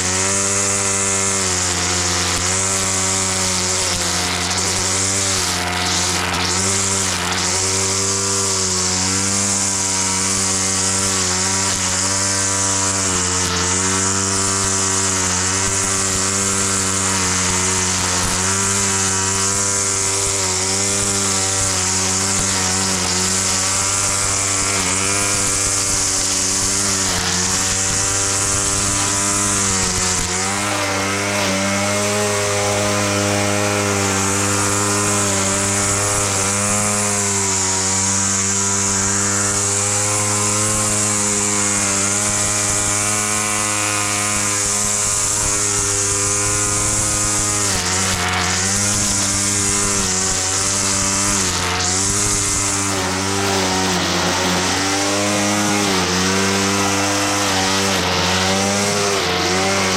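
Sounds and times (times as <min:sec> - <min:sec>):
grass cutter engine running: 0:00.0 - 0:59.9.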